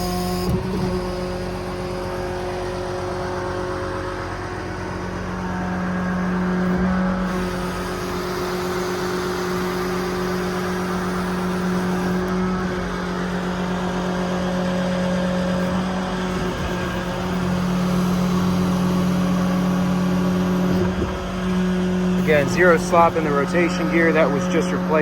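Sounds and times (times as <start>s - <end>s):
diesel engine and pump hum: 0.0s - 25.0s.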